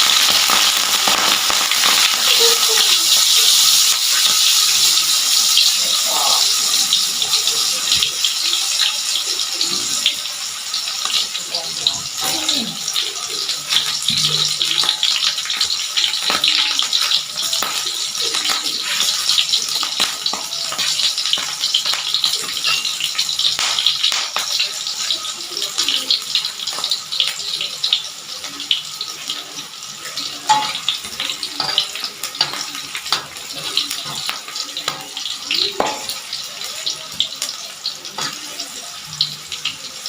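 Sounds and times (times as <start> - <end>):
food frying in hot oil: 0.0 - 40.0.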